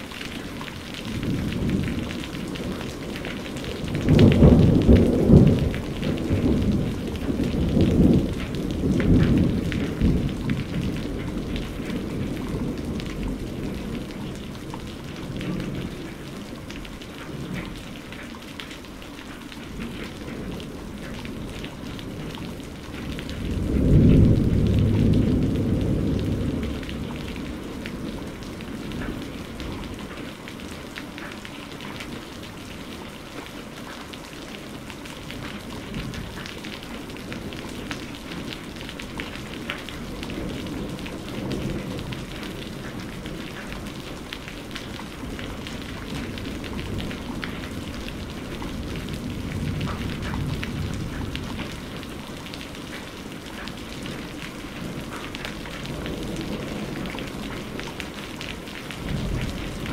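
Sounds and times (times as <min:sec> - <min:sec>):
thunder rumbling: 0:00.0 - 0:18.2, 0:19.6 - 0:30.7, 0:34.7 - 0:59.9
heavy rain: 0:00.0 - 0:59.9.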